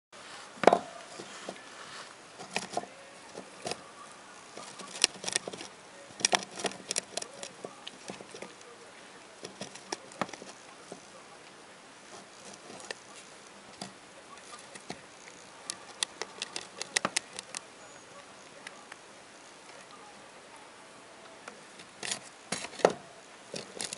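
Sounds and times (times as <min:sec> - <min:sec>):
rabbit gnawing loofah sponge: 0:00.9 - 0:19.0, 0:21.7 - 0:23.9.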